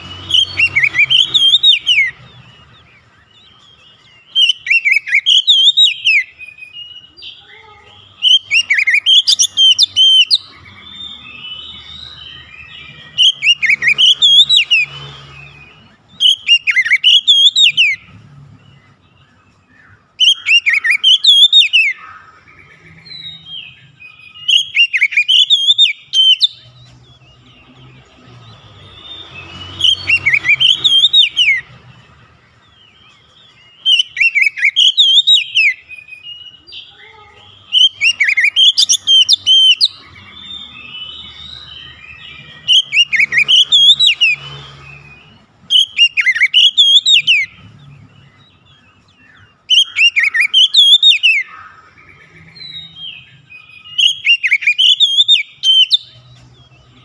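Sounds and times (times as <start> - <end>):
bird whistling and warbling: 0.0 - 2.8, 3.5 - 18.1, 19.3 - 31.9, 33.0 - 57.0.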